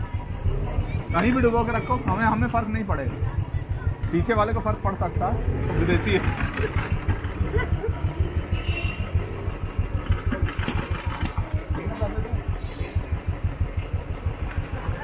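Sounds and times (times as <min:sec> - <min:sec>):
small engine pulsing: 0:00.0 - 0:15.0.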